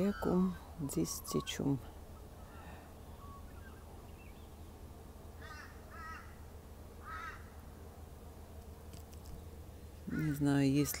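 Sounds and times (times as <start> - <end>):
bird calling: 0.0 - 7.8, 8.9 - 11.0
faint low hum: 0.0 - 11.0.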